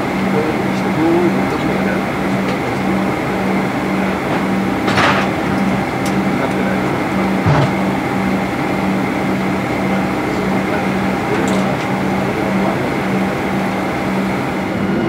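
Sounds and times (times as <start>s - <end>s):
cabin ventilation noise: 0.0s - 15.0s
low pulsing hum: 0.0s - 15.0s.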